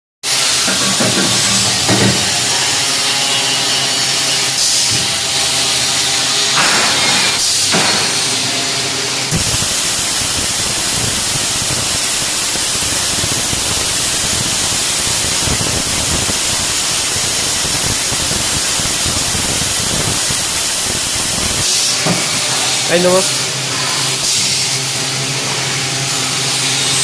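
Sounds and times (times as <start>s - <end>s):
welding arc crackling hiss: 0.3s - 27.0s
welding machine humming: 0.3s - 27.0s.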